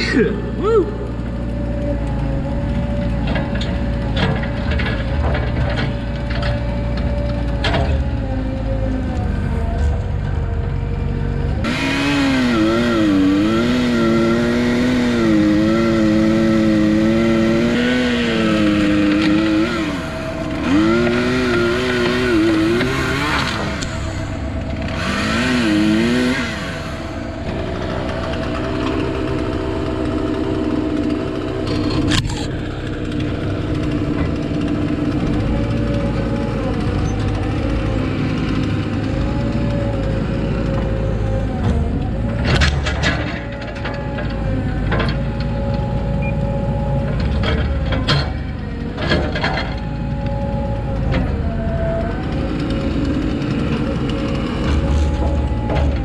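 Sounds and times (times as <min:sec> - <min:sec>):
low steady engine sound: 0:00.0 - 0:56.0
chainsaw cutting wood: 0:11.1 - 0:56.0.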